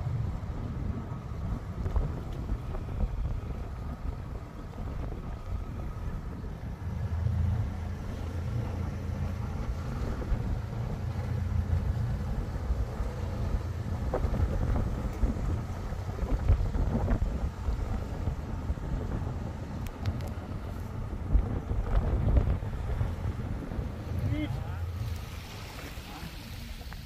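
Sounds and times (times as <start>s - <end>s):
motorboat engine rumbling: 0.0s - 27.0s
wind buffeting microphone: 0.0s - 27.0s.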